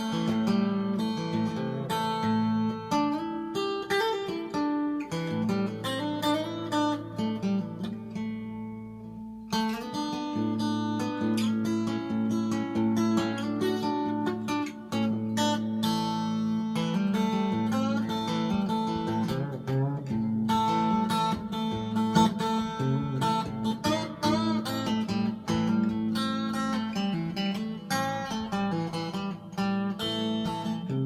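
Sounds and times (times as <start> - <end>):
electric guitar picked notes: 0.0 - 31.0.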